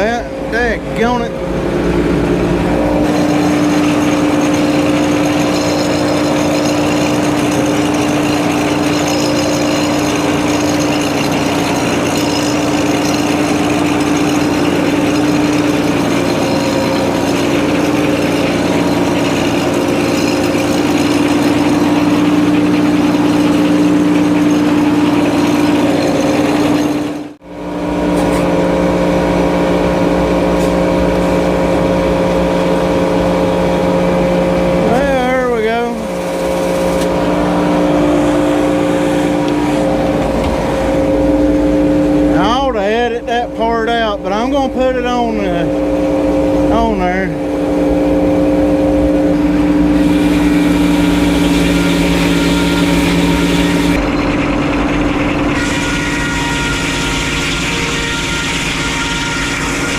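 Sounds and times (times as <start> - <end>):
sawmill engine humming: 0.0 - 59.9.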